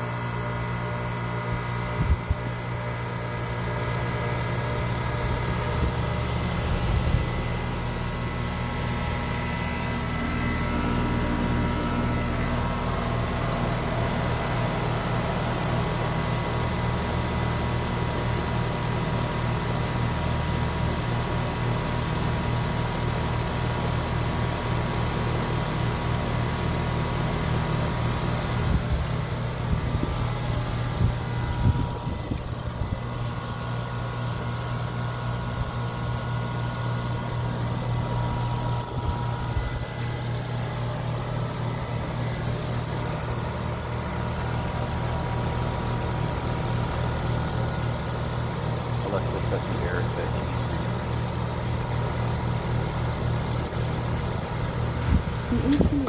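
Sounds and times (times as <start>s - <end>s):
air conditioner fan humming: 0.0s - 56.0s.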